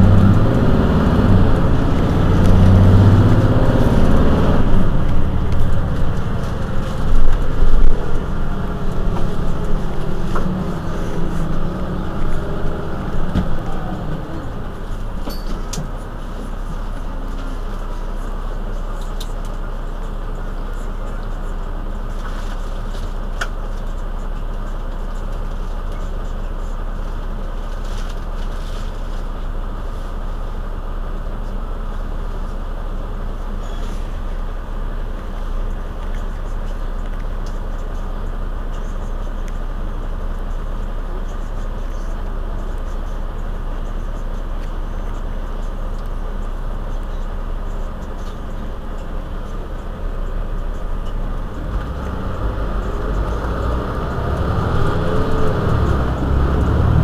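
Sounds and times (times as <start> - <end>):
diesel bus engine idling: 0.0 - 57.0.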